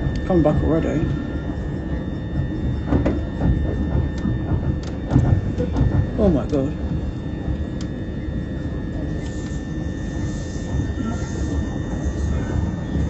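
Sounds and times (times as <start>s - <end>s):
train cabin low rumble: 0.0s - 13.0s.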